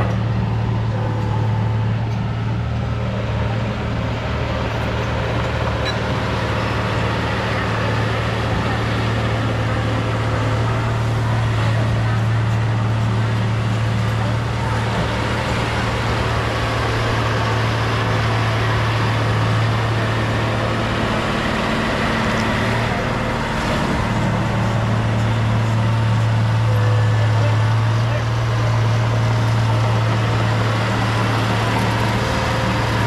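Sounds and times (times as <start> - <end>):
bulldozer diesel engine humming: 0.0 - 33.0.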